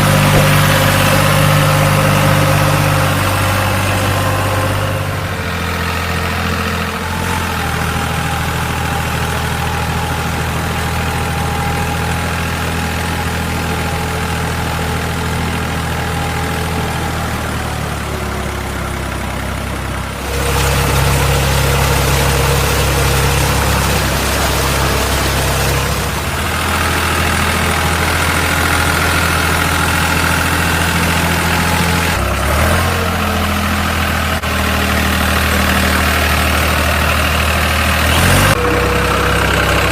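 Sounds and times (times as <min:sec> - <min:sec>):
engine hum: 0:00.0 - 0:39.9.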